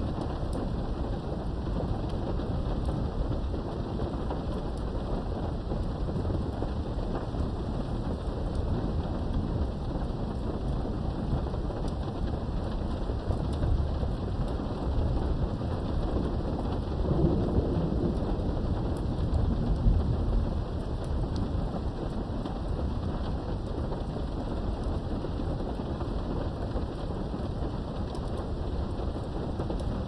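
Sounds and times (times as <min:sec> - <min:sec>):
low rumble of thunder: 0:00.0 - 0:30.0
steady rain: 0:00.0 - 0:30.0.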